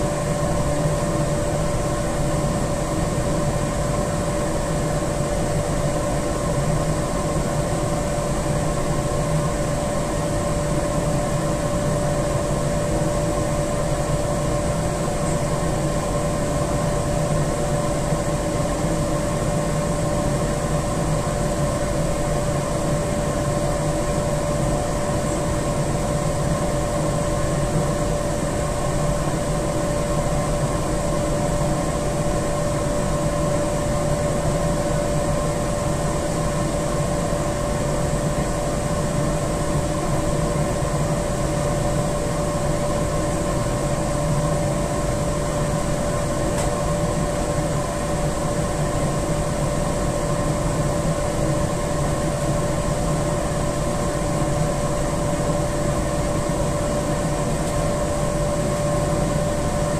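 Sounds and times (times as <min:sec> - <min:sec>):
boiler machinery hum: 0:00.0 - 0:59.9
mid-pitched whine: 0:00.0 - 0:59.9.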